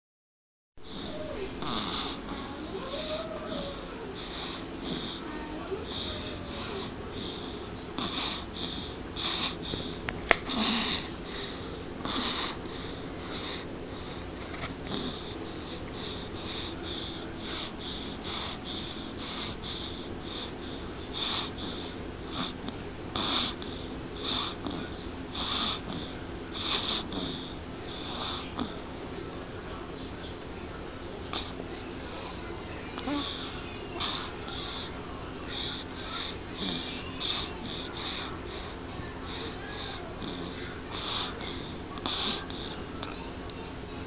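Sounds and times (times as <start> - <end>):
wheezy snoring: 0.9 - 14.2, 14.8 - 28.8, 33.0 - 43.2.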